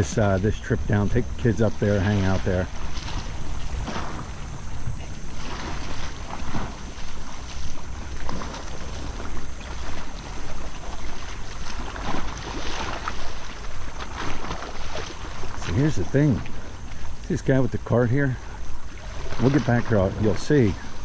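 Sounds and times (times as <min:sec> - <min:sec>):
seaside surf: 0:00.0 - 0:21.0.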